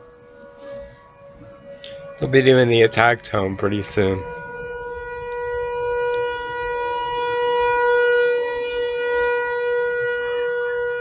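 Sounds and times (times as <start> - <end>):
tornado siren steady tone: 0.0 - 11.0.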